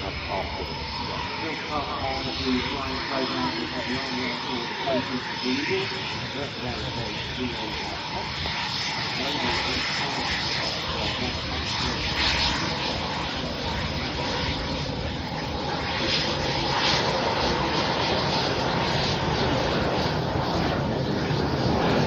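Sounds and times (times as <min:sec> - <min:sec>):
aircraft engines droning: 0:00.0 - 0:22.0.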